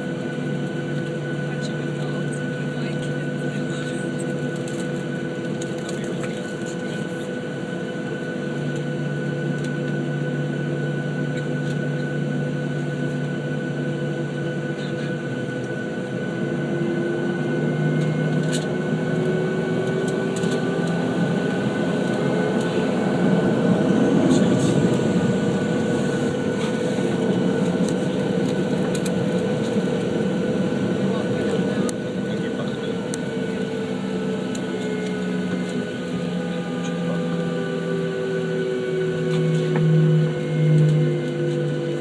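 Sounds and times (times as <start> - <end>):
jet engines humming in cabin: 0.0 - 42.0.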